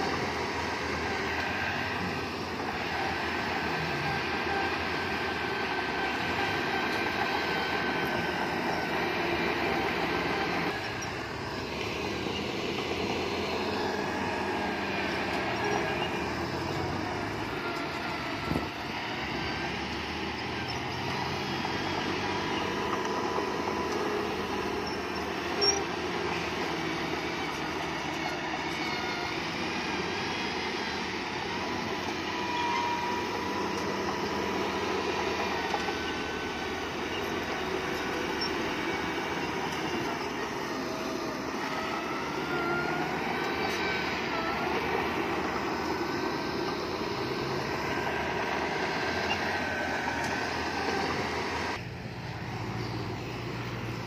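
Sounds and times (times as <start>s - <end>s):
crawler tracks squealing: 0.0s - 54.0s.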